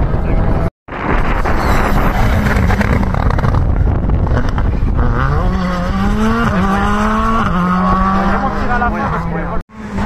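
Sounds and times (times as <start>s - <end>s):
rally car accelerating: 1.4s - 10.0s.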